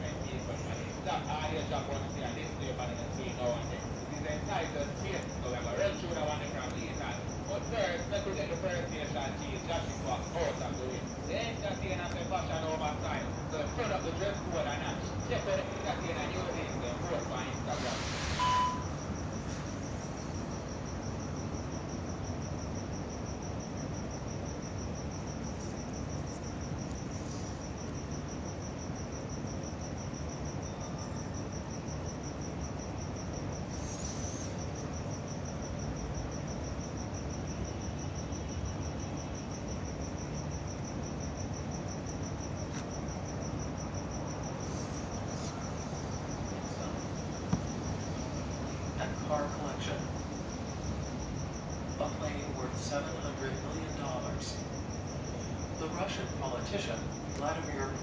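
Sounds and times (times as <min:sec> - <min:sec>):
crickets chirping: 0:00.0 - 0:58.0
low background hum: 0:00.0 - 0:58.0.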